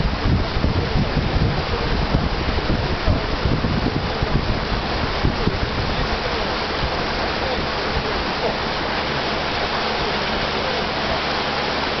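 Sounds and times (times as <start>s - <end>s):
low engine hum: 0.0s - 12.0s
water streaming past boat hull: 0.0s - 12.0s
wind buffeting microphone: 0.0s - 12.0s.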